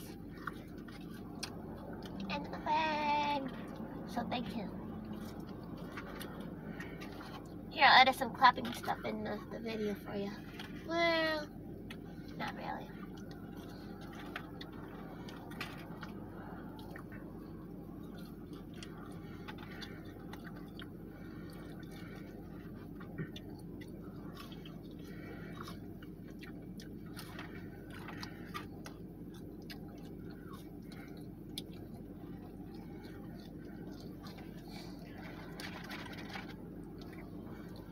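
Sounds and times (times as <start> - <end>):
air conditioning hum: 0.0 - 37.9
people chewing and eating: 0.0 - 37.9.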